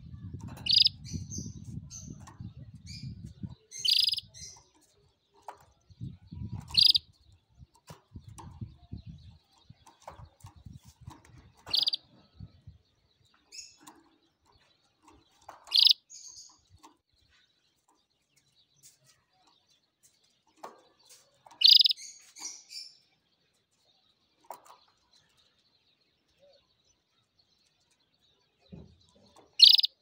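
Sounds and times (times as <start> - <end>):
canary chirping: 0.0 - 30.0.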